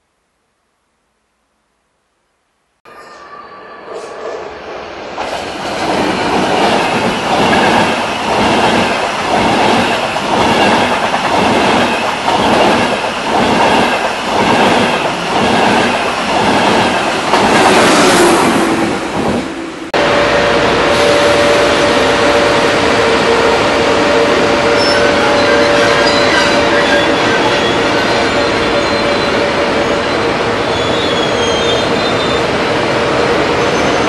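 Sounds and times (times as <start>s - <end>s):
high-speed train passing: 2.9s - 34.0s.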